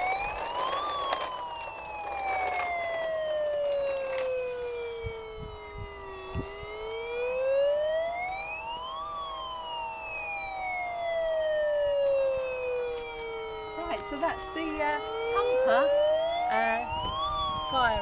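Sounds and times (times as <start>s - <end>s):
toy electronic siren wailing: 0.0s - 18.0s.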